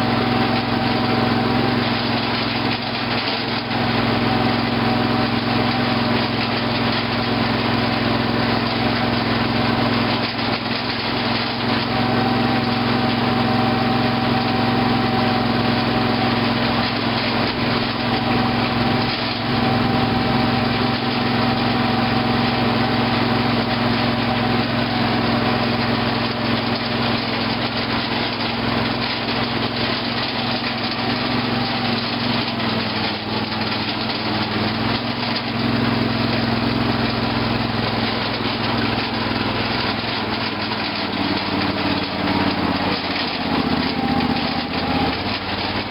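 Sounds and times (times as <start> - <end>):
lawn tractor engine running: 0.0 - 45.9.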